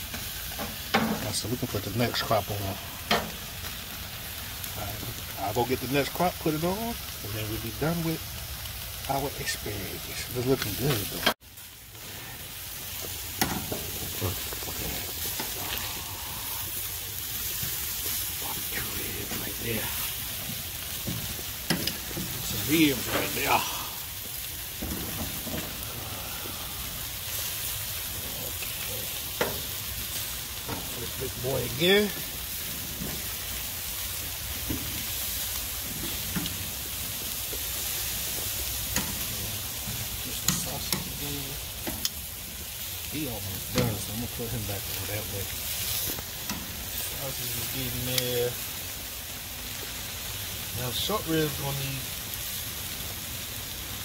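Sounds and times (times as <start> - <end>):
meat sizzling on a grill: 0.0 - 54.0.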